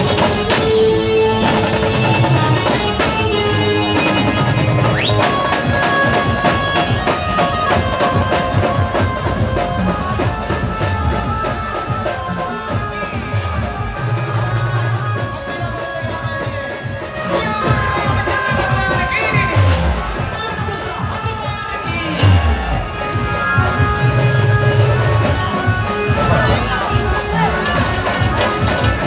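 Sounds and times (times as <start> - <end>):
band music over loudspeakers: 0.0 - 29.0.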